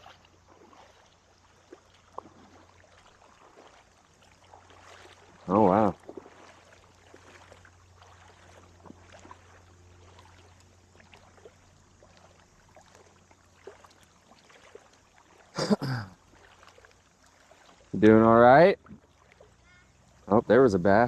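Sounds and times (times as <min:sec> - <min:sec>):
faint trickling water: 0:00.0 - 0:21.0
low steady hum: 0:00.0 - 0:21.0.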